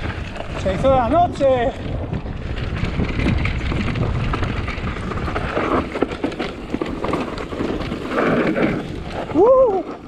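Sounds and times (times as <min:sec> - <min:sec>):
bike rattles and knocks: 0:00.0 - 0:10.0
bike tyres rolling over dirt: 0:00.0 - 0:10.0
wind rumble on microphone: 0:00.0 - 0:10.0.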